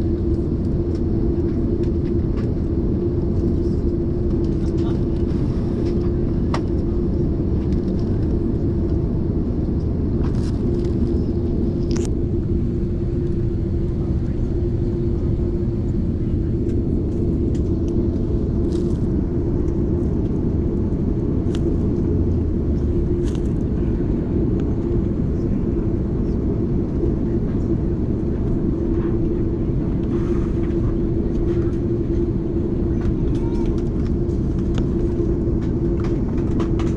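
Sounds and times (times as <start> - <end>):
aircraft cabin rumble: 0.0 - 36.9
constant hum: 0.0 - 36.9.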